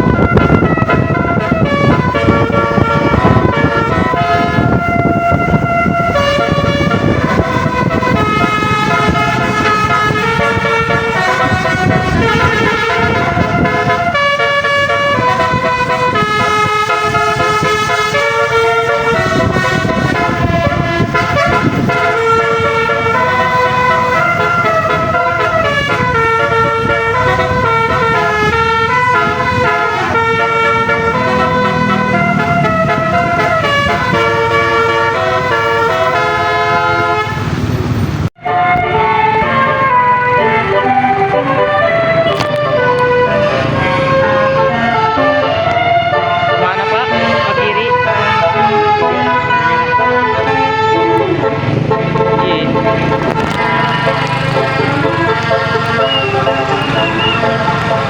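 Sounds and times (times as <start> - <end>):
multi-tone air horn tune: 0.0 - 37.8, 38.4 - 58.0.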